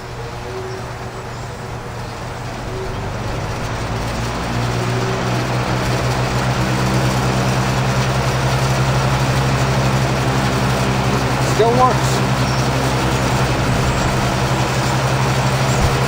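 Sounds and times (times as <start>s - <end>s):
box fan motor hum and air rush: 0.0s - 16.0s.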